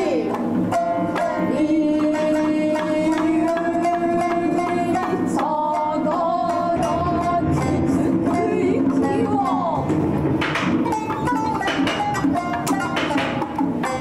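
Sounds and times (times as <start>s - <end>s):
plucked shamisen notes: 0.0s - 14.0s.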